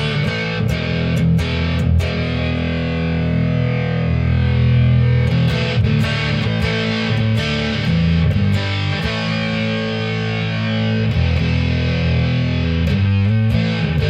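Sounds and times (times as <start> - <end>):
fuzzy electric guitar chords: 0.0 - 14.0.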